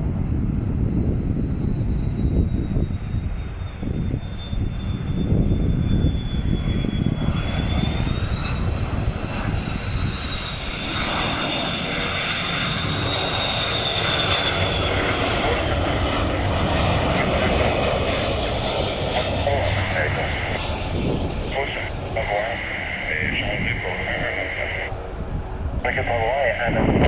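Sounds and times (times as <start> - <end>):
jet airliner passing overhead: 0.0 - 27.0.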